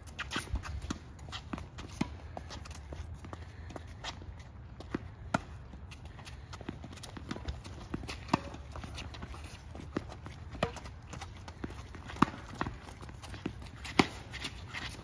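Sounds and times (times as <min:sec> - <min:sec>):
footsteps of players running: 0:00.0 - 0:15.0
balls bouncing on hard court: 0:00.1 - 0:15.0
tennis balls struck by racquets: 0:00.2 - 0:02.7, 0:04.7 - 0:15.0.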